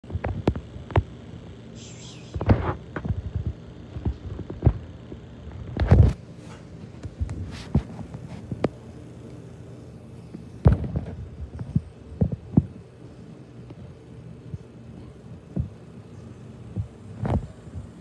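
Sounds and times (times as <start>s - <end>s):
faint low hum: 0.1s - 18.0s.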